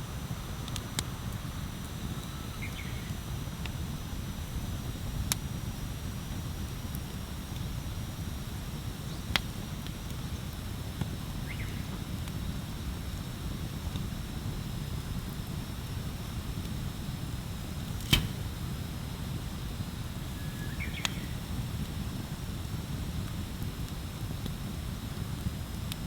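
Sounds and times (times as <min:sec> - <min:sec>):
wood bonfire crackling: 0:00.1 - 0:26.0.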